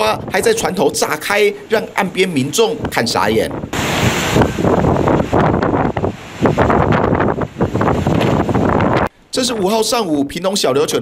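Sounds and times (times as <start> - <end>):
wind buffeting microphone: 0.0 - 9.7
rough waves rushing: 0.0 - 10.0.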